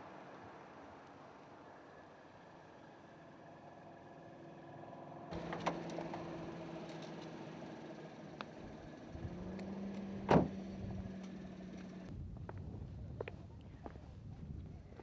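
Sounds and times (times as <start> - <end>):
car engine humming: 0.0 - 12.1.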